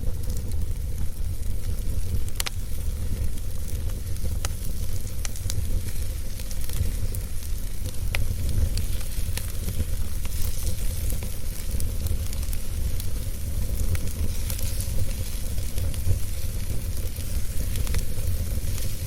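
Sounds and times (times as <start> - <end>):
fire rumble and hiss: 0.0 - 19.0
wood fire crackles and pops: 0.0 - 19.0.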